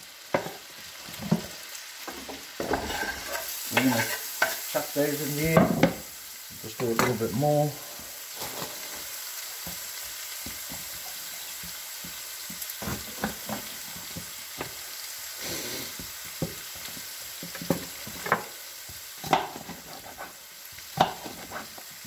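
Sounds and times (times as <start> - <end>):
bacon sizzling in a frying pan: 0.0 - 22.0.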